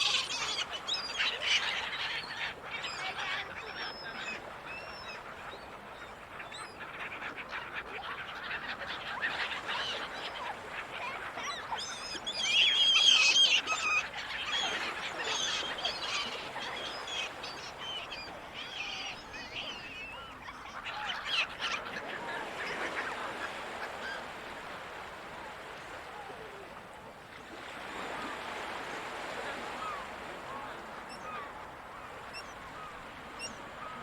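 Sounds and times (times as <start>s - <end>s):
sea noise: 0.0s - 6.5s, 8.2s - 34.0s
seagulls calling: 0.0s - 26.6s, 27.5s - 34.0s.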